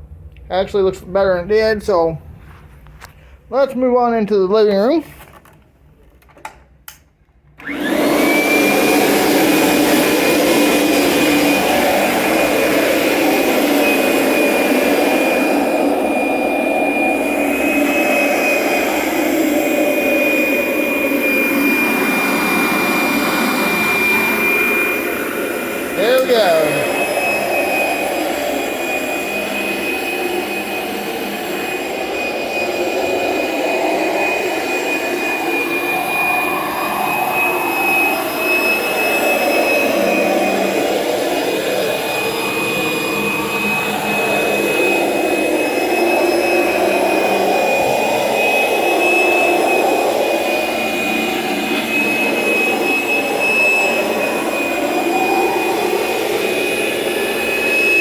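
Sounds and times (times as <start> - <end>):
vacuum motor whine: 7.5 - 58.0
shampooer rushing: 7.6 - 58.0.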